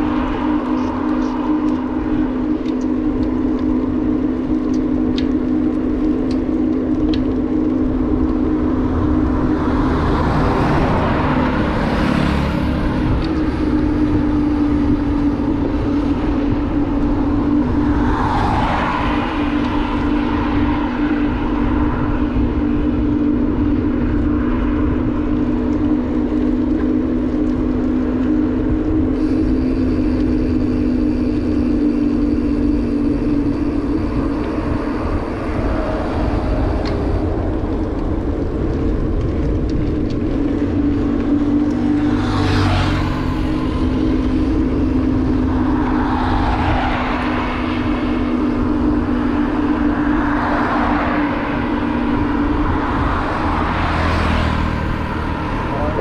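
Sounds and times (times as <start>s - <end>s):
motorbike engine running: 0.0s - 18.4s, 19.2s - 56.0s
vehicles passing: 0.0s - 56.0s
wind rumbling on microphone: 0.0s - 56.0s.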